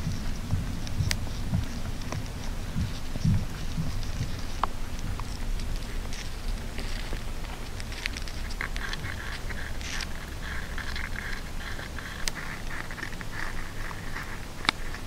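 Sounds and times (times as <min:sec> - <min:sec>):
low rumble: 0:00.0 - 0:15.0
scratchy scraping: 0:00.0 - 0:15.0
sharp clicks: 0:00.0 - 0:15.0.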